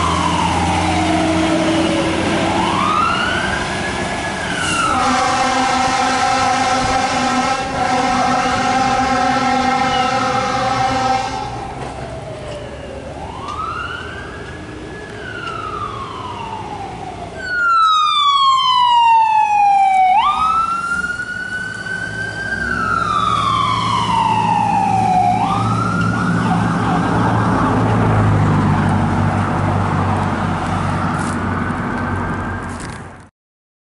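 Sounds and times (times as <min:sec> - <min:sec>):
ambulance electronic siren: 0:00.0 - 0:28.1
emergency vehicle horn: 0:00.0 - 0:28.4
fire truck siren wailing: 0:00.0 - 0:32.9
engine and road noise: 0:00.0 - 0:33.3.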